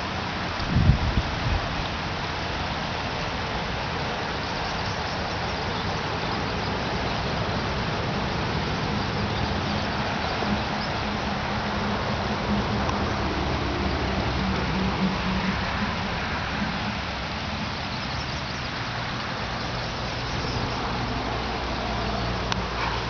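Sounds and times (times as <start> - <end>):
rushing outdoor noise: 0.0 - 23.0.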